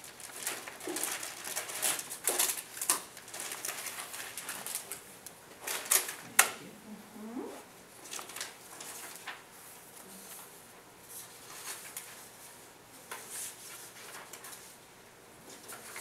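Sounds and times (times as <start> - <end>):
paper rustling: 0.0 - 6.5, 8.0 - 16.0.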